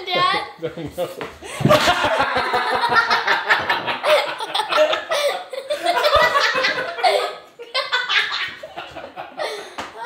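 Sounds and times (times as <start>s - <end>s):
girl laughing: 1.5s - 10.0s.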